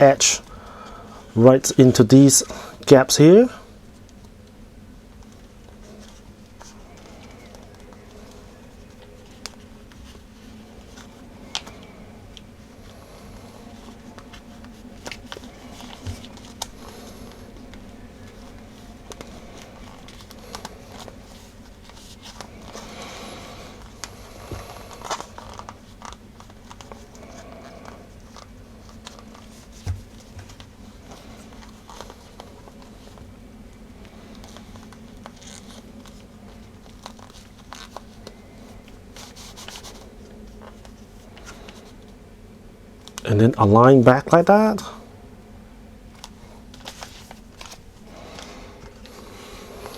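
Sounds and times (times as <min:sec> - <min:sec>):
steady low hum: 0:00.0 - 0:49.9
small clicks and rustles of handling: 0:04.0 - 0:23.0, 0:23.7 - 0:42.2, 0:43.0 - 0:43.3, 0:46.1 - 0:49.9.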